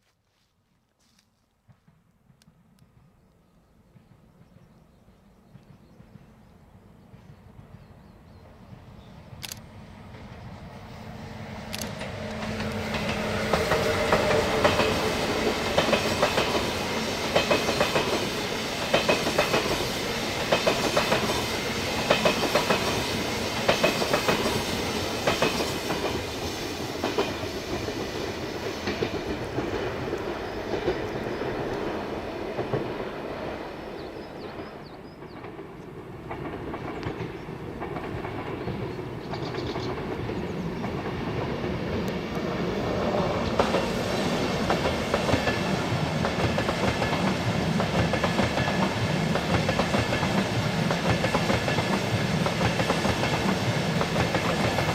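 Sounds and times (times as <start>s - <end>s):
train rumble: 1.6s - 54.9s
train wheels clicking over rail joints: 9.3s - 33.0s, 34.4s - 54.9s.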